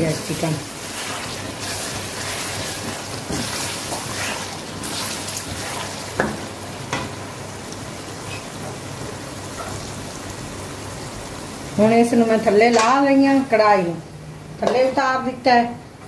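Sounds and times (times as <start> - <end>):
food sizzling in a pan: 0.0 - 15.4.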